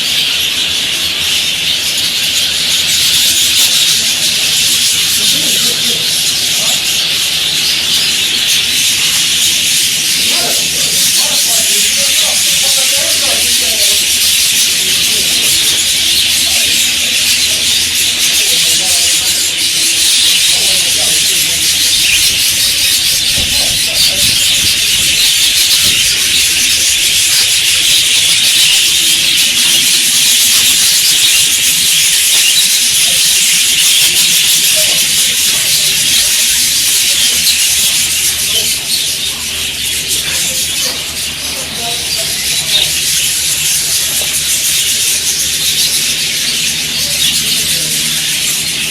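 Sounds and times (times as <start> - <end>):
flock of budgerigars chattering: 0.0 - 48.9.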